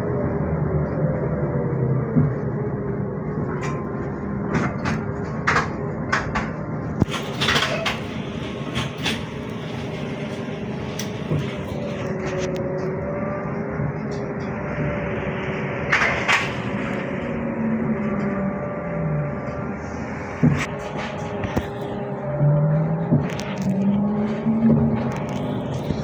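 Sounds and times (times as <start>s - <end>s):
road noise: 0.0s - 26.0s
trolleybus motor hum: 0.0s - 26.0s.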